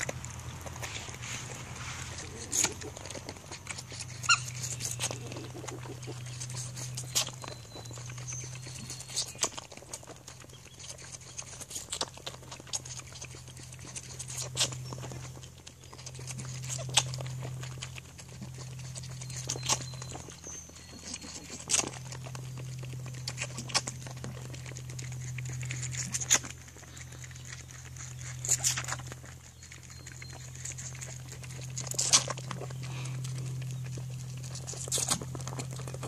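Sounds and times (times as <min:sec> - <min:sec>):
goat suckling from a bottle: 0:00.0 - 0:36.0
low hum: 0:00.0 - 0:36.0.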